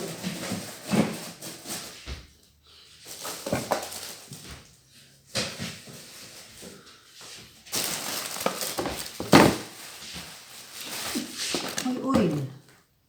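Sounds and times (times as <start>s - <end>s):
packaging rustling and scraping: 0.0s - 2.1s, 3.0s - 12.6s.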